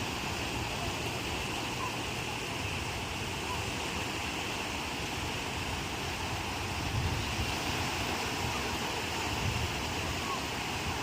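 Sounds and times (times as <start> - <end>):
low surf rumble: 0.0 - 11.0
waves breaking on shore: 0.0 - 11.0.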